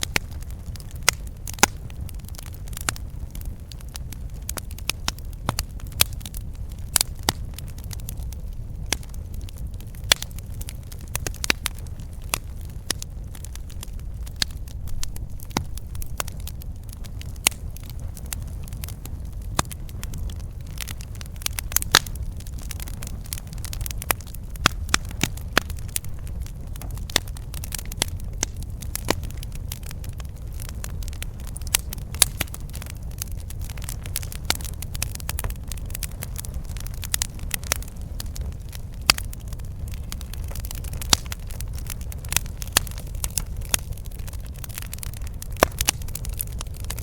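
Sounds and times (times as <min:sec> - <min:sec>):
flames rumbling: 0:00.0 - 0:47.0
wood crackling and popping: 0:00.0 - 0:47.0.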